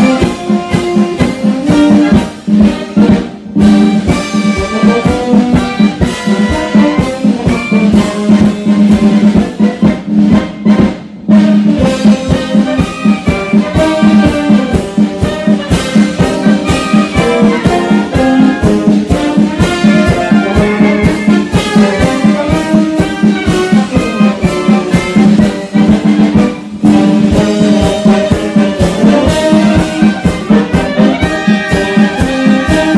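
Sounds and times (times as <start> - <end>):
brass: 0.0 - 32.9
flute: 0.0 - 32.9
steady drum beat: 0.0 - 32.9.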